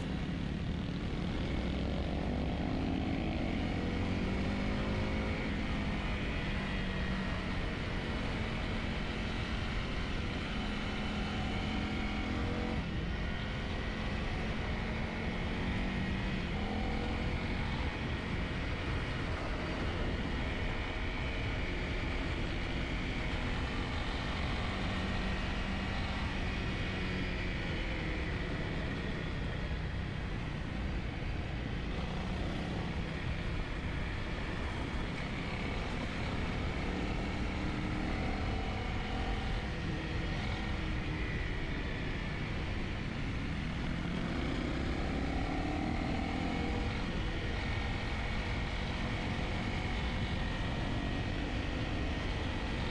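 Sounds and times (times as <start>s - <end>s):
road and wind noise: 0.0s - 52.9s.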